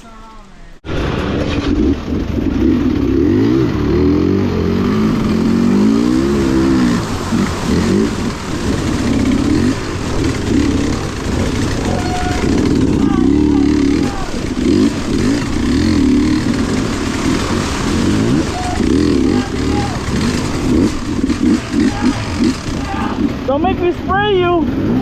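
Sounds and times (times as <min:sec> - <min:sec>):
vehicle engine revving hard: 0:01.3 - 0:23.5.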